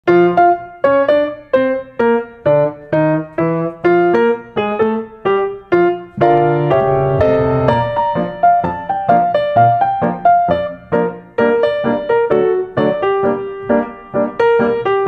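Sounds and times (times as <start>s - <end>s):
piano music: 0.1s - 15.0s.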